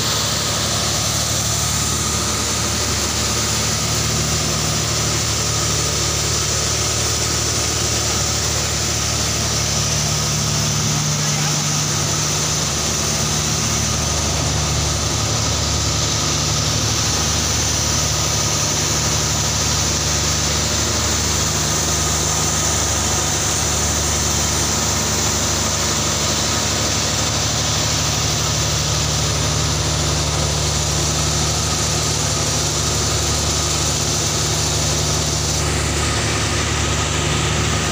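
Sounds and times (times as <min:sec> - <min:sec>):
engine running with whine: 0:00.0 - 0:37.9.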